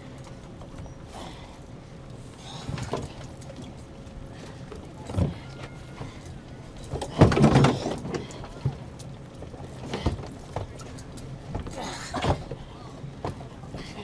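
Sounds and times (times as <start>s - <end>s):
steady low hum: 0.0s - 14.0s
knocks and thumps on boat deck: 2.5s - 14.0s.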